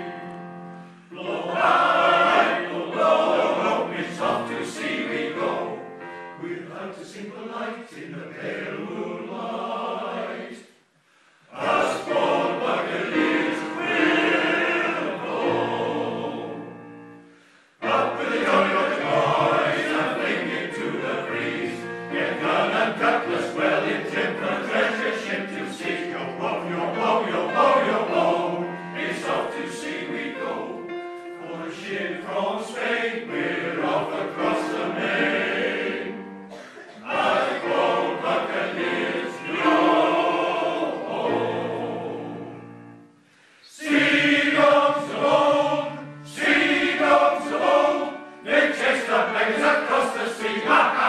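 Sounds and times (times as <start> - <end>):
piano accompaniment: 0.0 - 10.5, 11.5 - 51.0
male choir singing in harmony: 0.6 - 10.8, 11.4 - 51.0.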